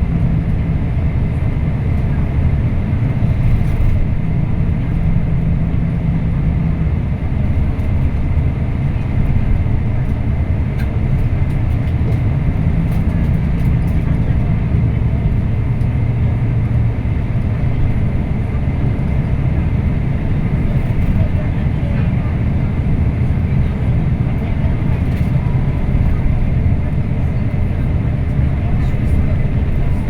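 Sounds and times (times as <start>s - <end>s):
diesel engine drone: 0.0s - 30.0s.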